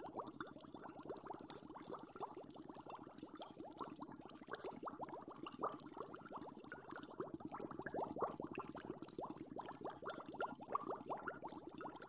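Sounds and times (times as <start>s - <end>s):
water boiling: 0.0s - 12.0s.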